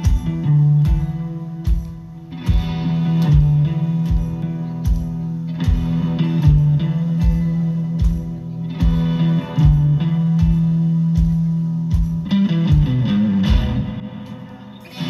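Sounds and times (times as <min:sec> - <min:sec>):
drum hits: 0:00.0 - 0:14.5
live band playing: 0:00.0 - 0:15.0.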